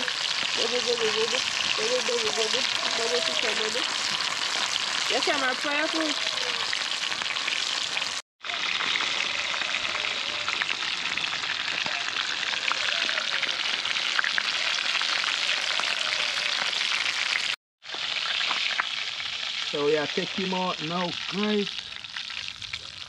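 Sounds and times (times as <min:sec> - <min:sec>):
fish frying in hot oil: 0:00.0 - 0:23.0.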